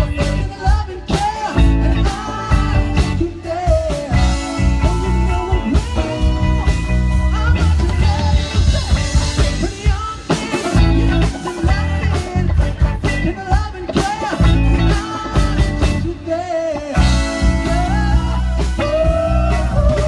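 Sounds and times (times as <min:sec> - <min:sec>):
man singing: 0:00.0 - 0:20.0
rock band playing live: 0:00.0 - 0:20.0.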